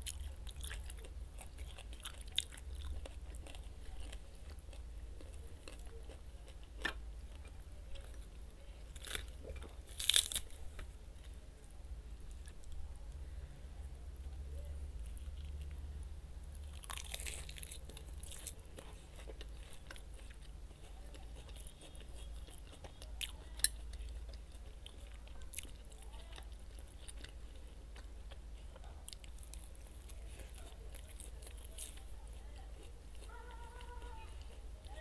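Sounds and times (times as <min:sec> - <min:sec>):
chewing crisp lettuce: 0:00.0 - 0:11.5, 0:14.5 - 0:35.0
steady low hum: 0:00.0 - 0:35.0.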